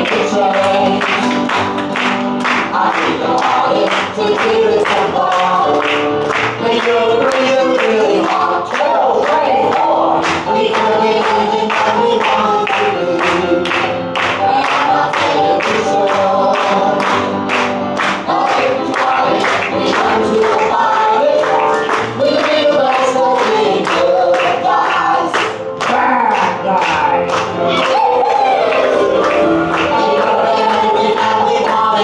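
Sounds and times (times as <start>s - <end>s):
group singing over quick beat: 0.0s - 32.0s.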